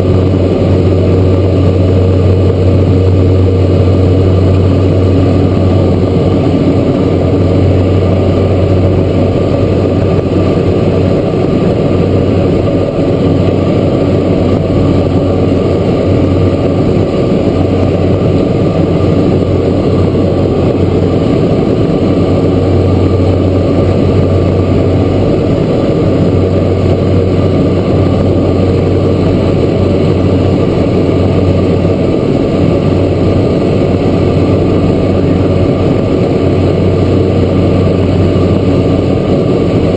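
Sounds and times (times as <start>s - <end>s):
turboprop engine drone in cabin: 0.0s - 39.9s.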